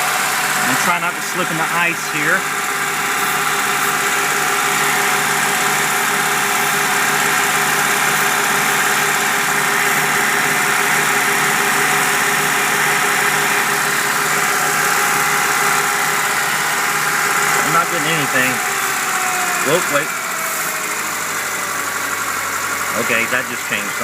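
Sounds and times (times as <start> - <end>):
truck engine idling high: 0.0 - 24.0.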